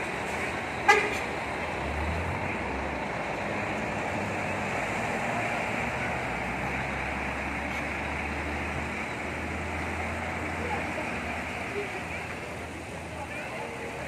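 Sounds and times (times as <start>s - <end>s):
diesel coach engine rumble: 0.0s - 14.0s.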